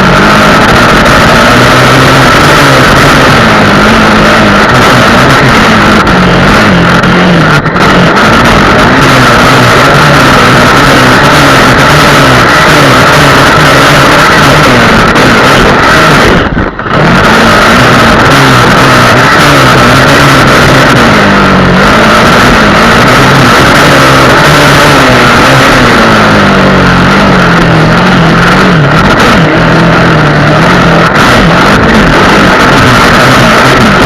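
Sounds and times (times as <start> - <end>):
heavy steady noise: 0.0 - 34.0
motorcycle engine revving: 0.0 - 34.0.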